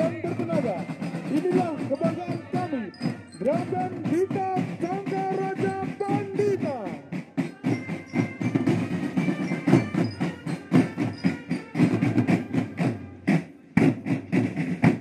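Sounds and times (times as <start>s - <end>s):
marching drum band: 0.0s - 15.0s.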